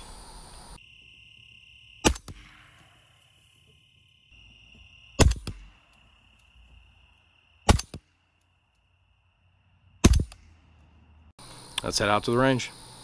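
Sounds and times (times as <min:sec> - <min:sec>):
insects trilling: 0:00.0 - 0:10.1, 0:10.9 - 0:13.0.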